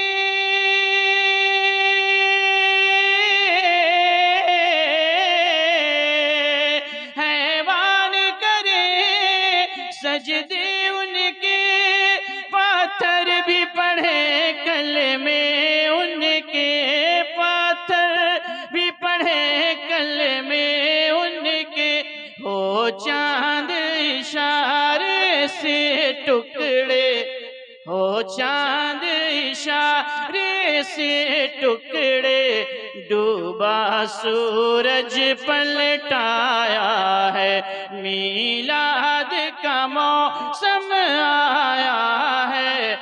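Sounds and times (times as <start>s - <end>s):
man singing into a microphone: 0.0s - 43.0s.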